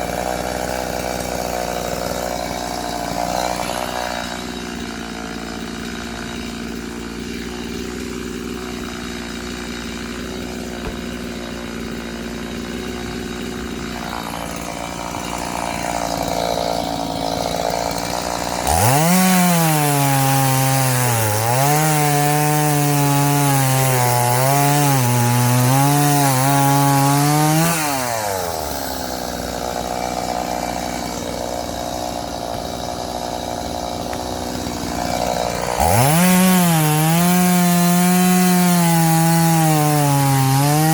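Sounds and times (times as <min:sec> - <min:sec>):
chainsaw cutting firewood: 0:00.0 - 0:40.9
chainsaw idling and revving: 0:00.0 - 0:40.9.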